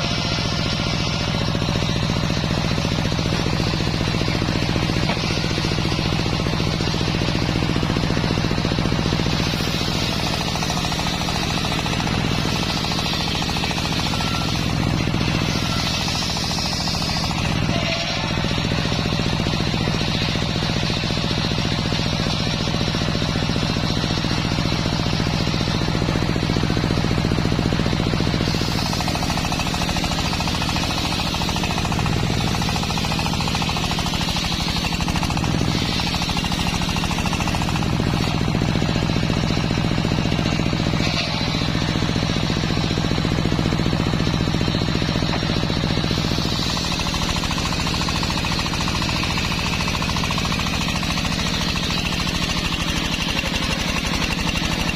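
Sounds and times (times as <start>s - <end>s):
engine-driven circular saw ripping log: 0.0s - 54.9s.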